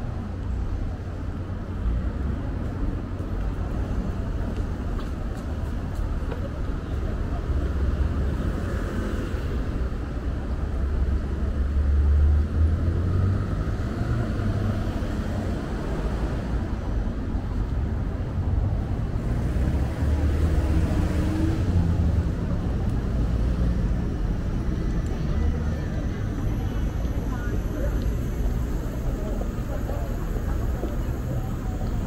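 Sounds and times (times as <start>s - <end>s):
cars passing with low rumble: 0.0s - 32.0s.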